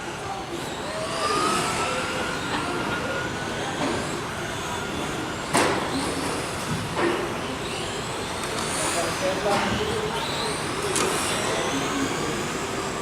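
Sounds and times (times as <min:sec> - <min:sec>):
rc car motors whining: 0:00.0 - 0:13.0.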